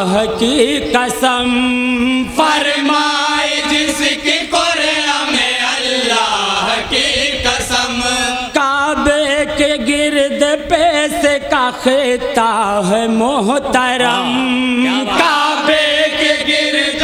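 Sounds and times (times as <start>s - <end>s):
men singing in chorus: 0.0s - 17.0s.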